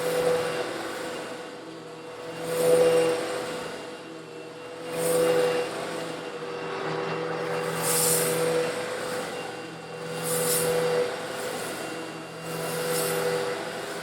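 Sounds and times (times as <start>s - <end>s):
vacuum cleaner motor hum: 0.0s - 14.0s.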